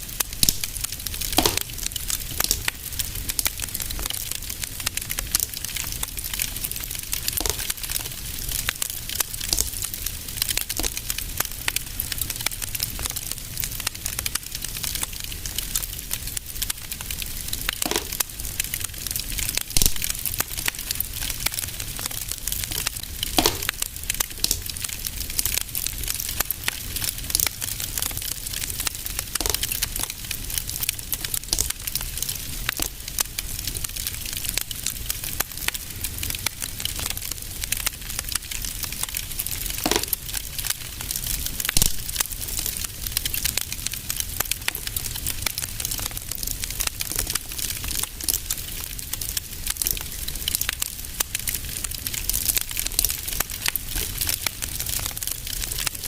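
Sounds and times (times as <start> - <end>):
fire crackling in a fireplace: 0.0 - 56.0
loud fire pops: 0.0 - 56.0.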